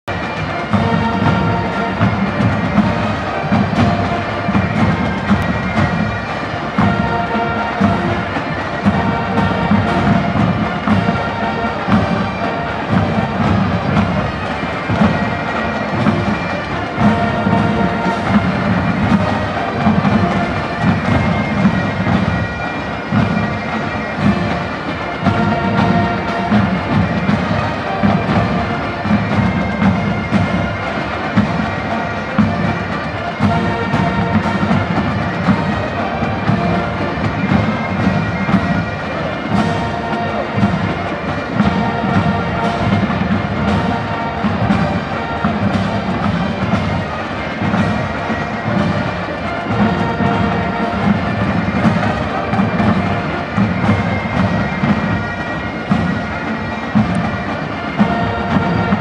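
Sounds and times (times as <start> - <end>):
bagpipes and brass: 0.0 - 59.0.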